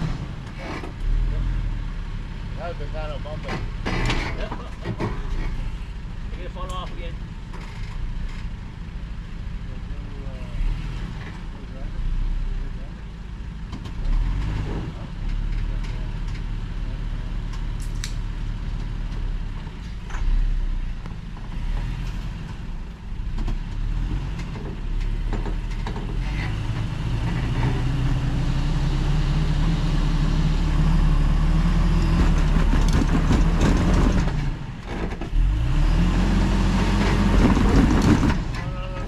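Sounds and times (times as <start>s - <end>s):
truck engine pulling under load: 0.0s - 39.0s.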